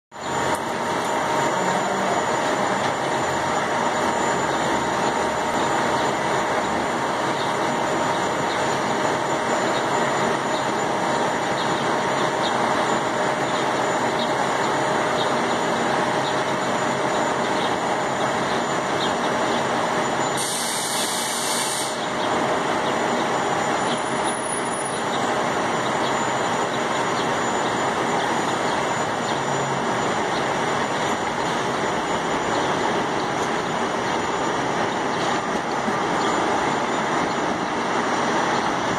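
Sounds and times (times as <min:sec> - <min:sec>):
streetcar electric hum and whir: 0:00.1 - 0:38.9.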